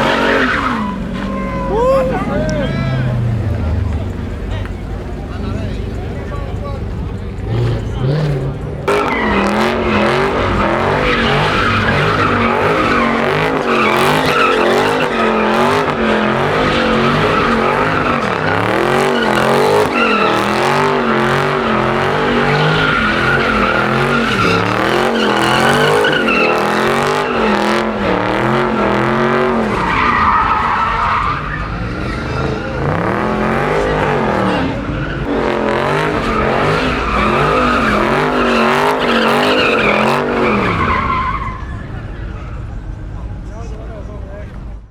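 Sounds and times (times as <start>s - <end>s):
tyres squealing: 0.0s - 6.4s, 7.0s - 42.7s
car engine revving: 0.0s - 42.9s.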